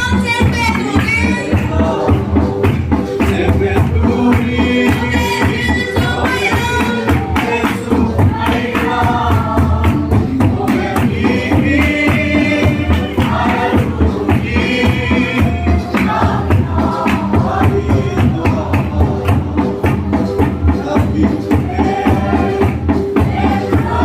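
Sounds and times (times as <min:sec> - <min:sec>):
steady percussion beat: 0:00.0 - 0:24.0
group singing a hymn: 0:01.0 - 0:24.0.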